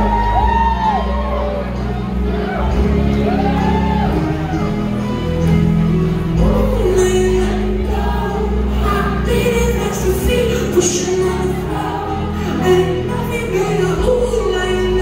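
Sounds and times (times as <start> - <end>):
live band playing pop song: 0.0 - 15.0.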